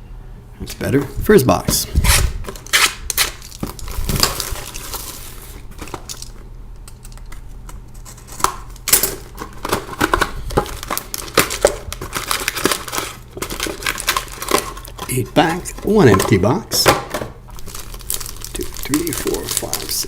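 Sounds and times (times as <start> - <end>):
packs crinkling and tearing: 2.0 - 6.4, 7.0 - 16.9, 17.5 - 20.0.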